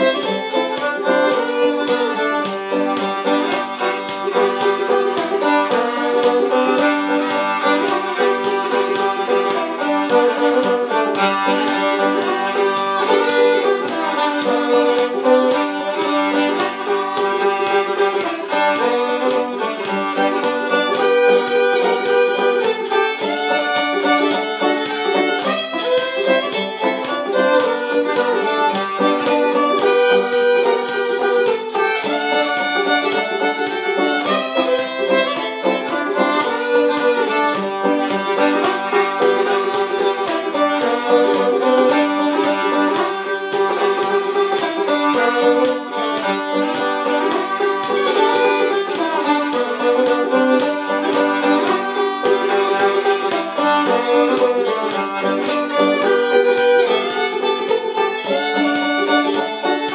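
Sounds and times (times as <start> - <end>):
bowed fiddle melody: 0.0 - 59.9
plucked banjo: 0.0 - 59.9.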